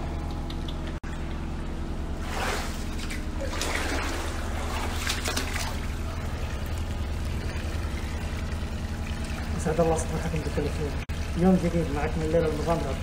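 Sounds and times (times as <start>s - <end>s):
low hum: 0.0s - 13.0s
flood water splashing and trickling: 2.2s - 13.0s.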